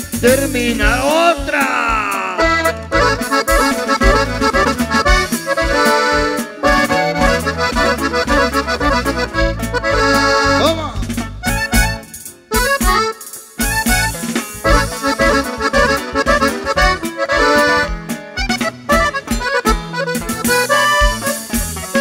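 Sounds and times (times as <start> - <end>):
accordion lead runs: 0.0 - 22.0
band playing bass drums guitar: 0.0 - 22.0.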